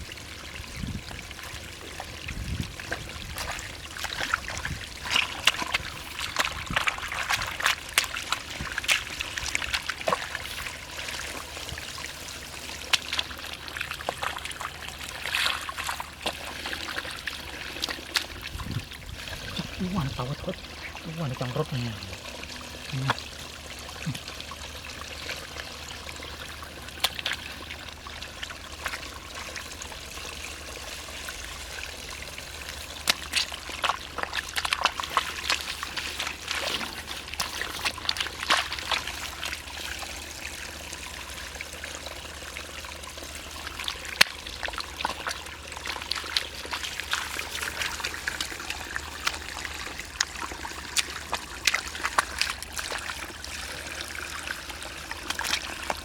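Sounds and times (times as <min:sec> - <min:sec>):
small water splashes and clicks: 0:00.0 - 0:56.0
water trickling: 0:00.0 - 0:56.0.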